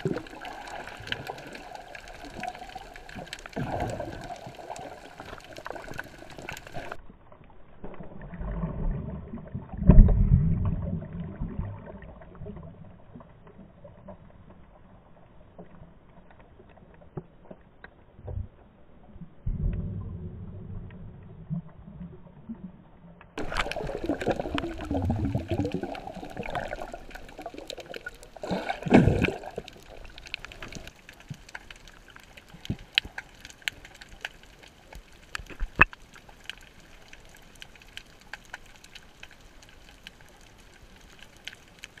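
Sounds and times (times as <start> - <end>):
faint crackle of tiny clicks: 0.0 - 8.4, 11.8 - 19.8, 20.8 - 42.0
underwater rushing water: 0.0 - 17.5, 23.4 - 42.0
water bubbling and sloshing: 0.0 - 42.0.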